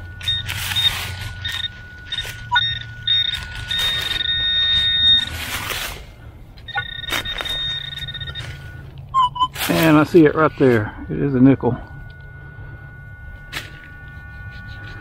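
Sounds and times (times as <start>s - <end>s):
rustling of dirt and dry leaves: 0.0s - 12.5s
metal detector probe beeping: 0.0s - 15.0s.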